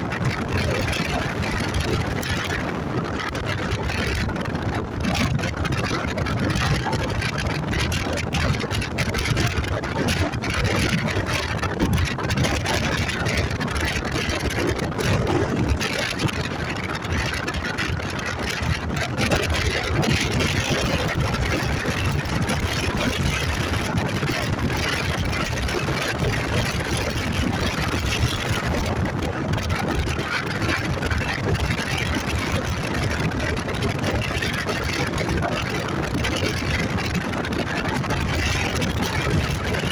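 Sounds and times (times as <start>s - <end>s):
continuous rushing noise: 0.0s - 39.9s.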